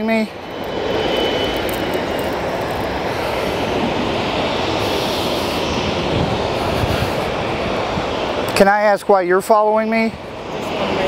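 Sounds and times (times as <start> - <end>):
aircraft engine rushing: 0.0 - 11.0.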